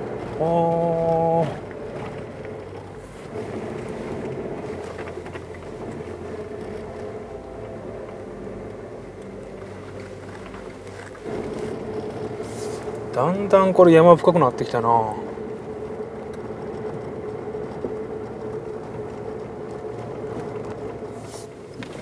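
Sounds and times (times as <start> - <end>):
car engine running at low speed: 0.0 - 22.0.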